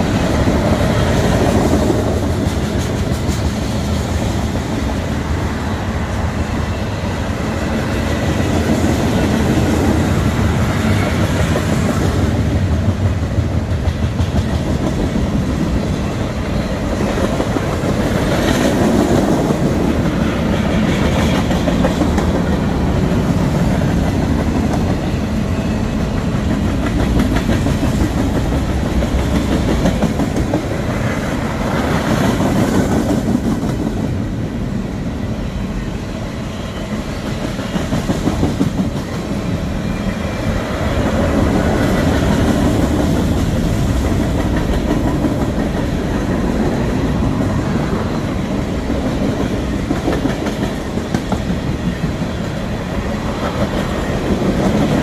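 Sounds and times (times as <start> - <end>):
freight cars rumbling on rails: 0.0 - 55.0.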